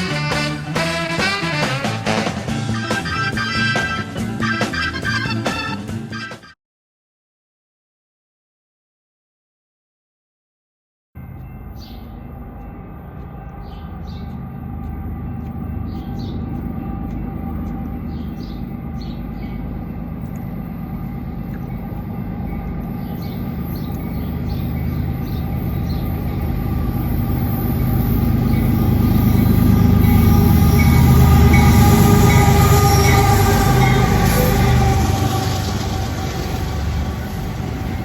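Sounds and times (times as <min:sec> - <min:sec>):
diesel train engine and wheels rumbling: 0:00.0 - 0:06.3, 0:11.2 - 0:38.0.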